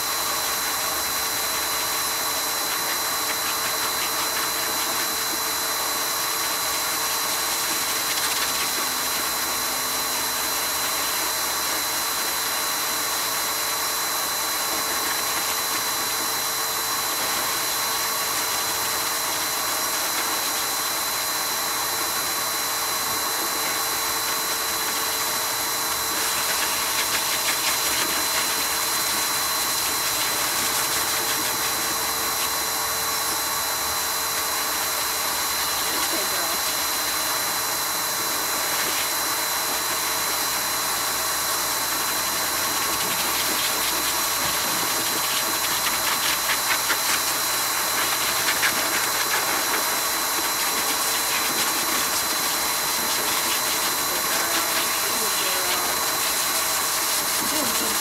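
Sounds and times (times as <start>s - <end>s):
high-pitched blower motor whine: 0.0s - 58.0s
pet dryer blowing air: 0.0s - 58.0s.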